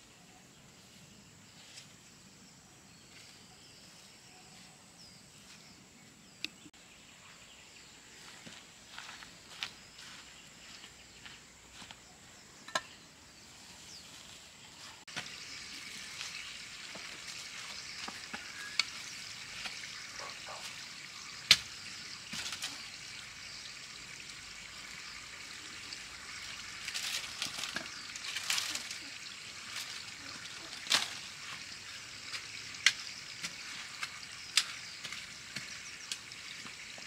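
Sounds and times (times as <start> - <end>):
outdoor background hiss: 0.0 - 37.0.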